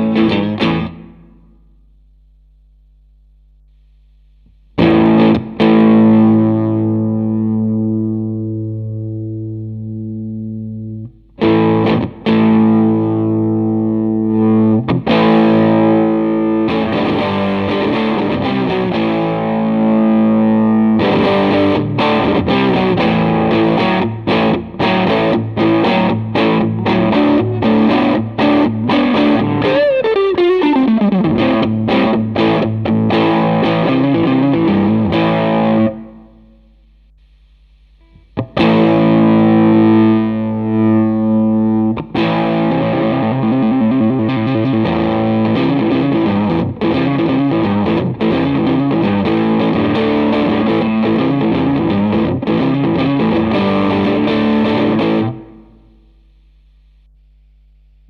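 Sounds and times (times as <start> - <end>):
distorted electric guitar: 0.0 - 2.0, 3.7 - 57.1.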